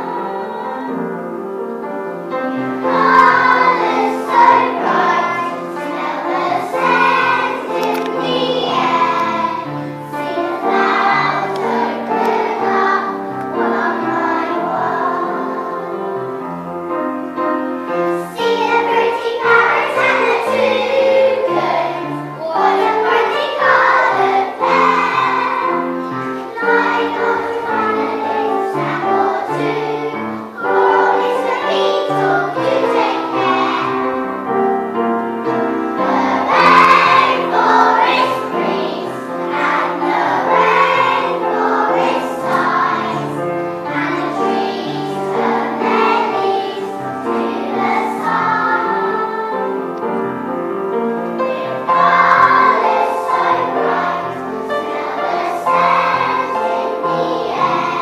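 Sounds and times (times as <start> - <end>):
children's choir singing: 0.0 - 58.0
instrumental accompaniment: 0.0 - 58.0.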